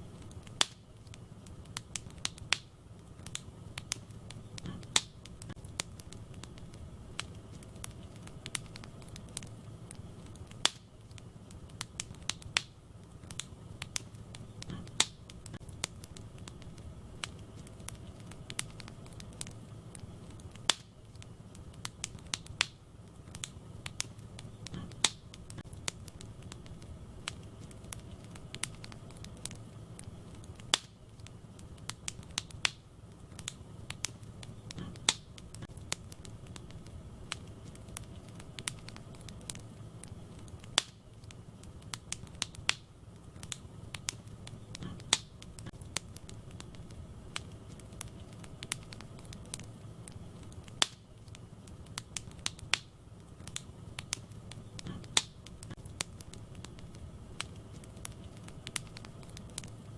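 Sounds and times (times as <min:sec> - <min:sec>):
loud fire snaps: 0:00.0 - 0:59.9
low rumble of flames: 0:00.0 - 0:59.9
wood fire crackling and popping: 0:00.0 - 0:59.9.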